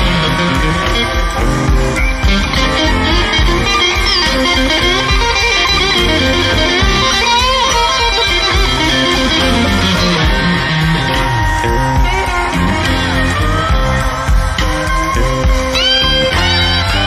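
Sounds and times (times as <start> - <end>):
bass: 0.0 - 17.0
drums: 0.0 - 17.0
electric guitar solo: 0.0 - 17.0
second guitar: 0.0 - 17.0.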